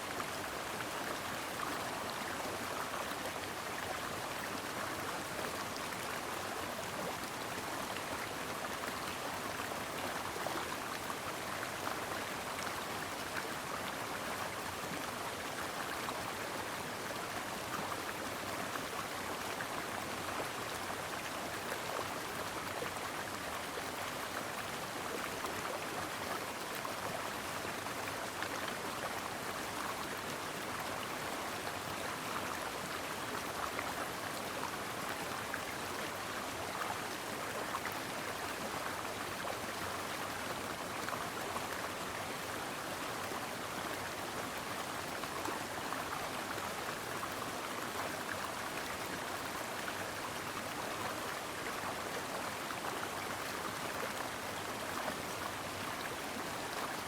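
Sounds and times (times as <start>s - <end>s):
creek babbling over rocks: 0.0s - 57.0s.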